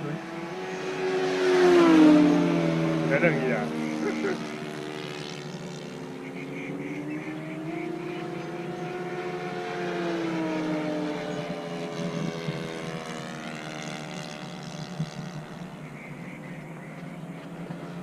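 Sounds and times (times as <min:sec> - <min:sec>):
model airplane engines in flight: 0:00.0 - 0:18.0.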